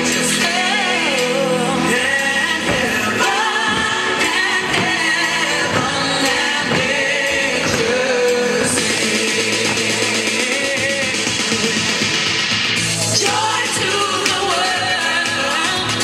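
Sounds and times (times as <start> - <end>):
dance song over loudspeaker: 0.0 - 16.0.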